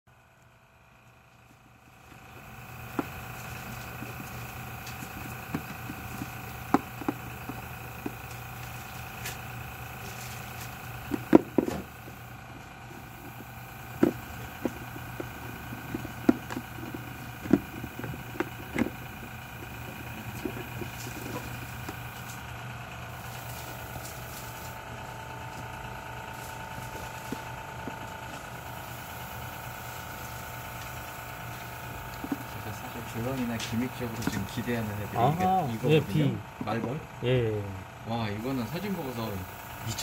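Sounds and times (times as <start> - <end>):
steady background hum: 0.1 - 40.0.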